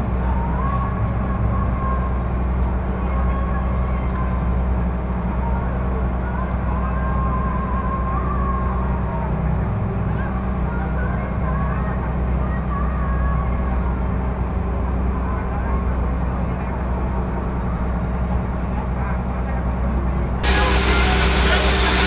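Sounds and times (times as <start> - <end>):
motorboat engine drone: 0.0 - 22.0.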